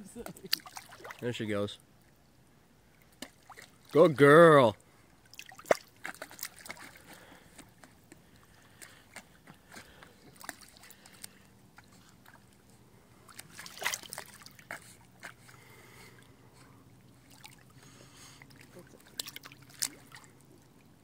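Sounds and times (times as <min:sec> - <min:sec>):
water splashing: 0:00.0 - 0:01.6, 0:02.9 - 0:16.4, 0:17.0 - 0:21.0
lake water lapping: 0:00.0 - 0:02.2, 0:02.8 - 0:21.0.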